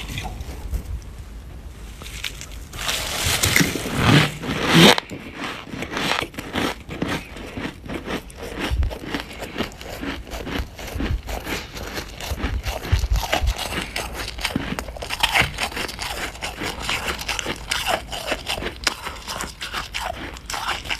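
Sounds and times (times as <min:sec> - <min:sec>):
frost being bitten and chewed: 0:02.1 - 0:20.9.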